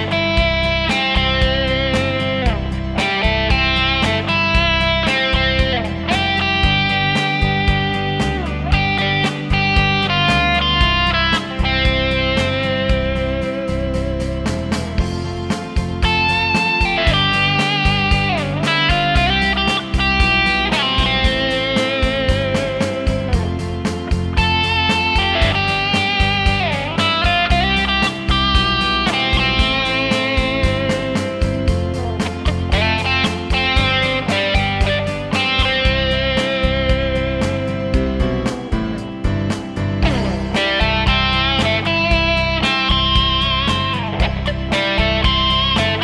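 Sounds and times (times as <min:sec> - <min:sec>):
overdriven electric guitar: 0:00.0 - 0:46.0.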